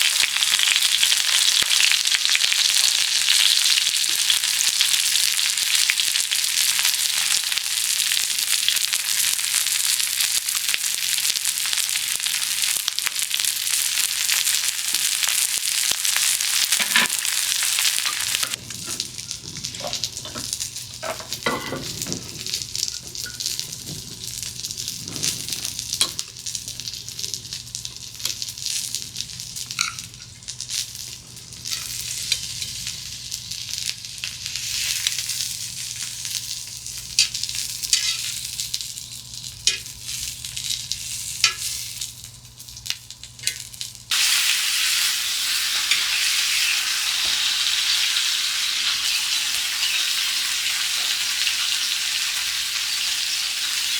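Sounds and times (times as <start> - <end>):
food sizzling in hot fat: 0.0 - 53.9.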